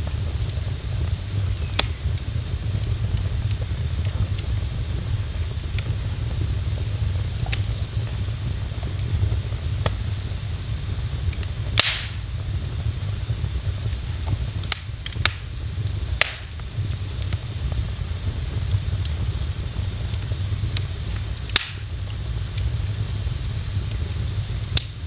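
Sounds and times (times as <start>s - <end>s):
low rumble of fire: 0.0s - 25.0s
wood fire crackling and popping: 0.0s - 25.0s.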